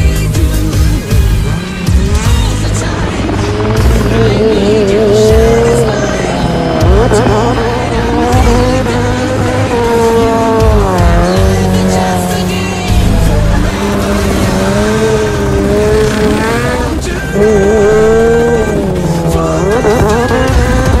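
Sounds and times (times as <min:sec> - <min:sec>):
car engine revving: 0:00.0 - 0:21.0
tyres squealing: 0:01.1 - 0:21.0.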